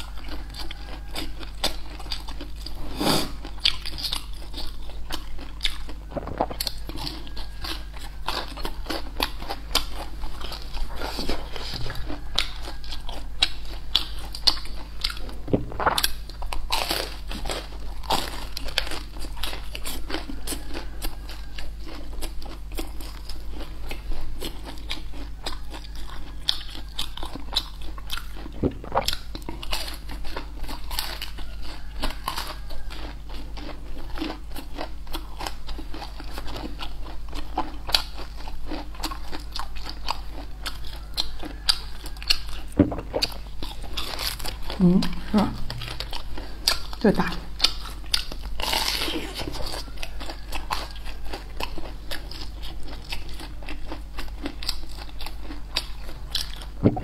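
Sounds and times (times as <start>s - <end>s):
crunching fried food: 0.0s - 57.0s.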